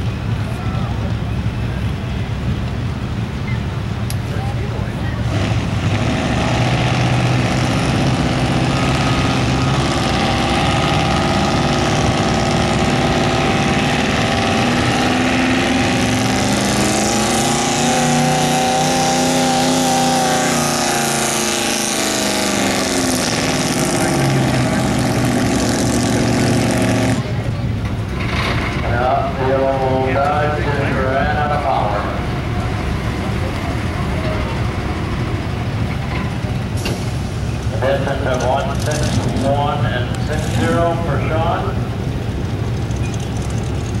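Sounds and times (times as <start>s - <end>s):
truck engine running under load: 0.0s - 44.0s.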